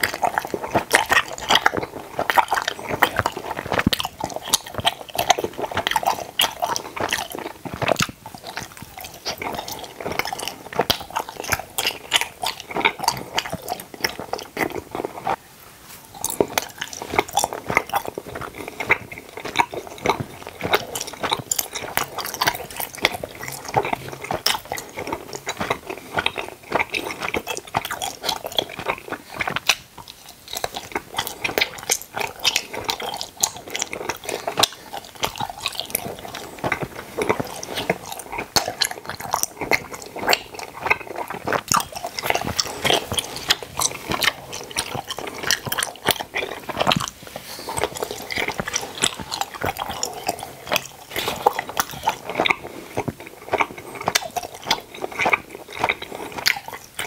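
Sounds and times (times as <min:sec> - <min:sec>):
chewing gummy candies: 0:00.0 - 0:57.0.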